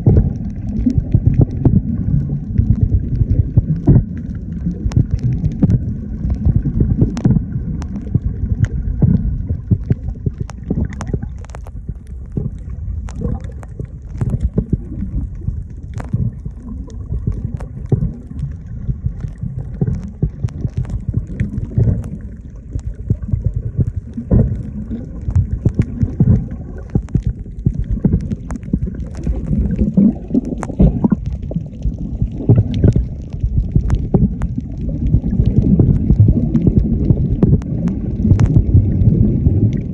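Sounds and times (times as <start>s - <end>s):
underwater clicks and crackles: 0.0s - 39.9s
underwater rumble of moving water: 0.0s - 39.9s.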